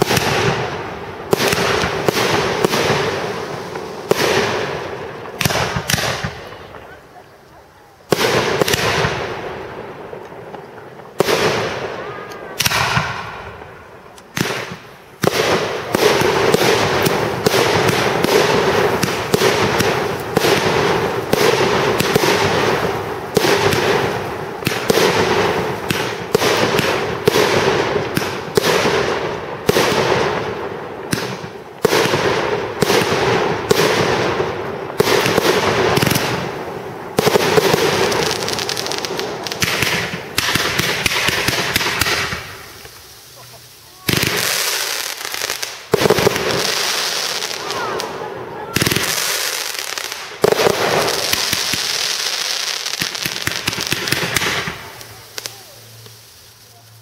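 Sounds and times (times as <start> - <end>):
fireworks bursting: 0.0 - 57.0
fireworks crackling: 0.0 - 57.0.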